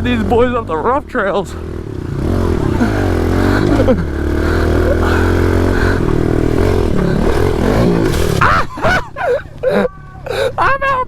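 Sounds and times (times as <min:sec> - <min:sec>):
pit bike engines revving: 0:00.0 - 0:11.0.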